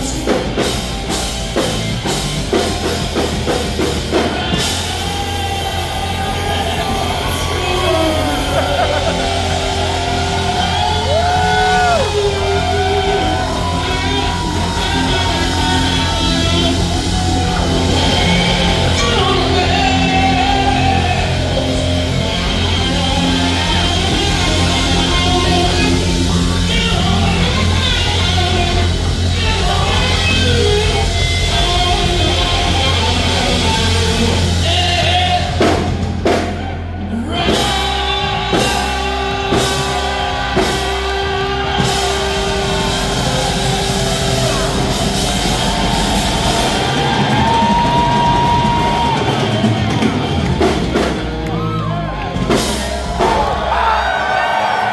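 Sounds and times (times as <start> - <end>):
drum kit: 0.0 - 54.9
electric guitar: 0.0 - 54.9
person singing: 2.5 - 36.0, 37.0 - 54.9.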